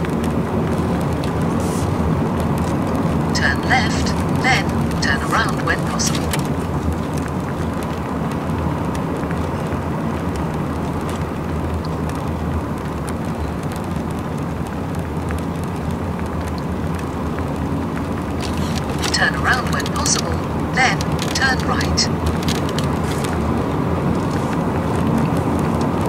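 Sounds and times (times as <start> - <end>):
car cabin road drone: 0.0 - 26.0.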